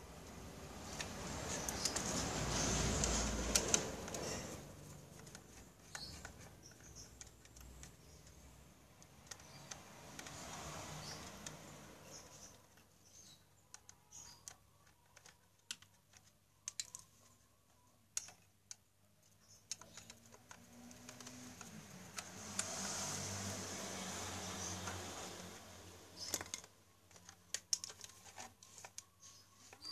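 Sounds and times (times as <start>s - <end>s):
rustling: 0.0s - 17.4s, 19.7s - 29.9s
screwdriver and plastic parts clicking: 0.8s - 22.9s, 24.6s - 29.9s.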